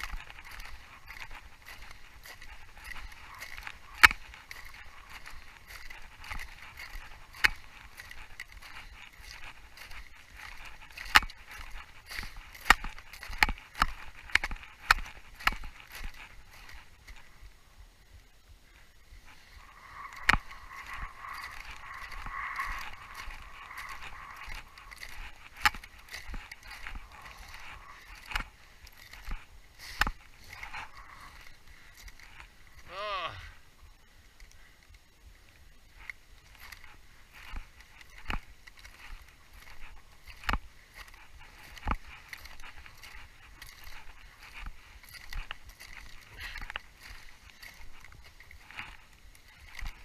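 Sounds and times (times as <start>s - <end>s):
crunching and scraping on ice: 0.0s - 17.6s, 19.2s - 33.6s, 35.8s - 50.0s.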